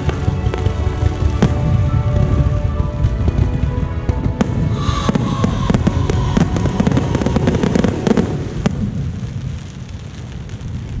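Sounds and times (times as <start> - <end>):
fireworks cracking: 0.0 - 11.0
low fireworks rumble: 0.0 - 11.0.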